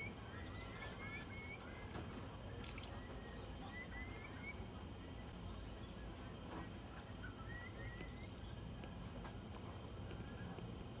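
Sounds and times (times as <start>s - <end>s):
faint bird chirps: 0.0s - 11.0s
low background rumble: 0.0s - 11.0s.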